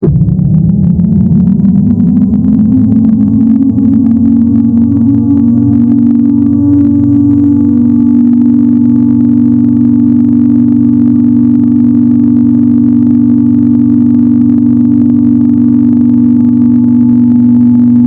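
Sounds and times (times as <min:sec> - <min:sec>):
droning warning alarm tone: 0:00.0 - 0:18.0.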